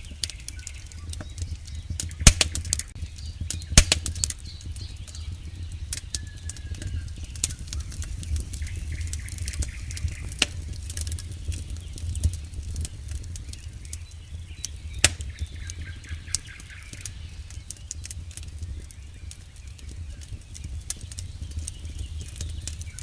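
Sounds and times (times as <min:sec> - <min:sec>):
campfire crackling and popping: 0:00.0 - 0:23.0
low rumble of burning fire: 0:00.0 - 0:23.0.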